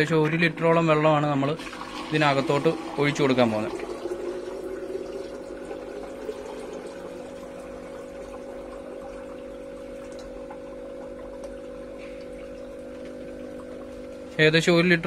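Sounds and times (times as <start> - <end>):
air pump humming: 0.0 - 15.0
water pouring into plastic bottle: 1.5 - 14.1.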